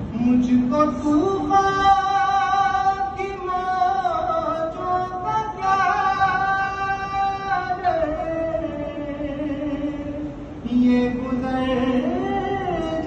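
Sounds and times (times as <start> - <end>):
man singing a cappella: 0.1 - 13.0.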